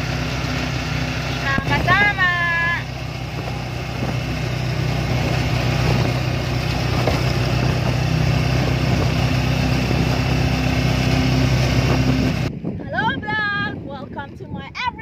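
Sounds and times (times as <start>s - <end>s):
motorcycle engine humming: 0.0s - 14.9s
road noise: 0.0s - 15.0s.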